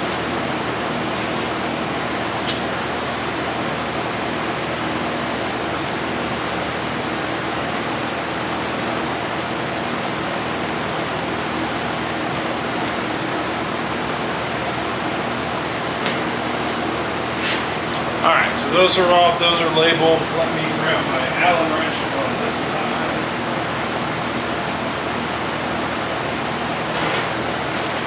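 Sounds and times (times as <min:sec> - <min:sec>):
fan rushing: 0:00.0 - 0:28.0.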